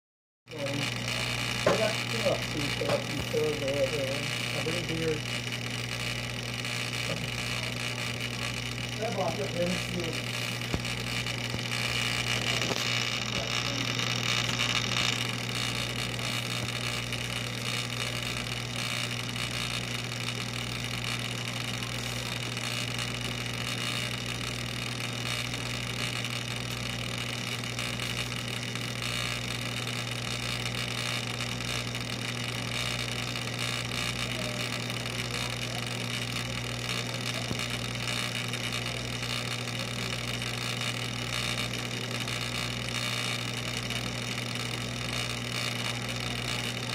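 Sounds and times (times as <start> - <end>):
aquarium pumps humming: 0.5 - 46.9.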